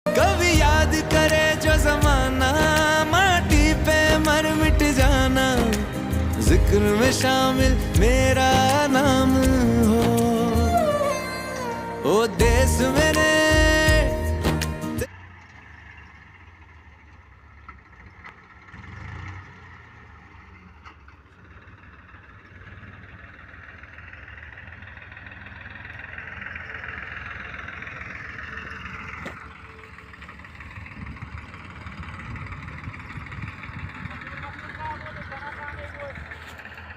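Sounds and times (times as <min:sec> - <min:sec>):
tractor engine throbbing: 0:00.0 - 0:36.9.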